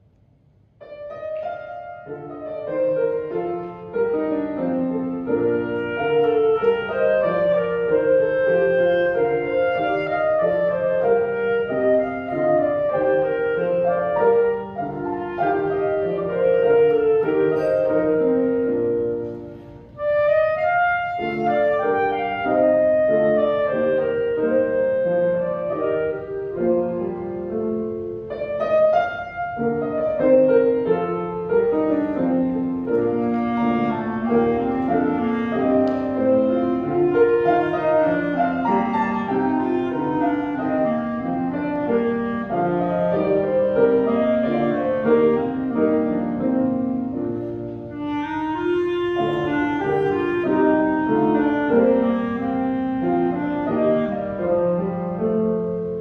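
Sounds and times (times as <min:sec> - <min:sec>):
piano accompaniment: 0:00.0 - 0:56.0
clarinet melody: 0:00.8 - 0:56.0.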